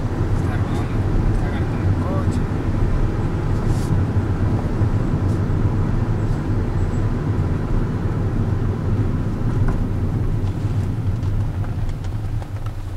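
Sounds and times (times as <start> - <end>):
car engine rumble: 0.0 - 12.9
tyres rolling on road: 0.0 - 12.9.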